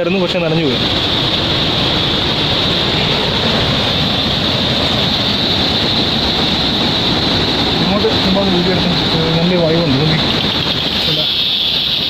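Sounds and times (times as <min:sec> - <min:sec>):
high hiss: 0:00.0 - 0:12.0
waterfall rushing: 0:00.0 - 0:12.0.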